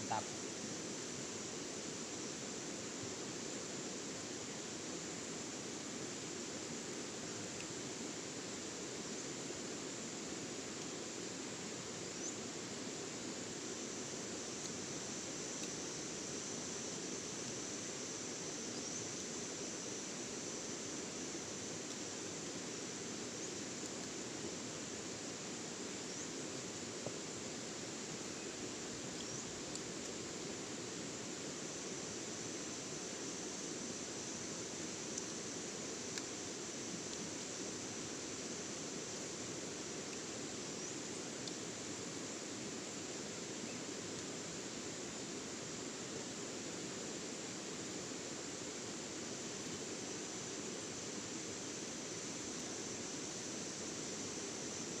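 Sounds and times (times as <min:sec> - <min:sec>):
even hiss: 0:00.0 - 0:55.0
high insect drone: 0:00.0 - 0:55.0.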